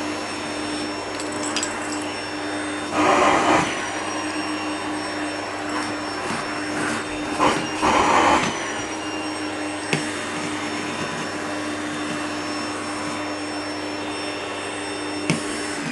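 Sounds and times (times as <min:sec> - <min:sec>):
vacuum cleaner running: 0:00.0 - 0:15.9.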